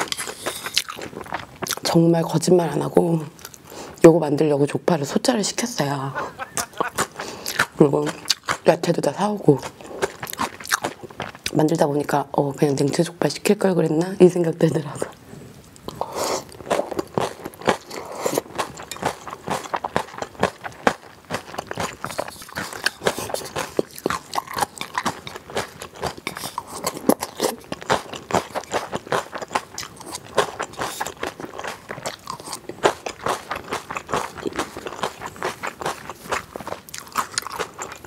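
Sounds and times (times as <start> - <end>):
chewing and crunching food: 0.0 - 4.0, 5.8 - 12.2, 15.0 - 38.0.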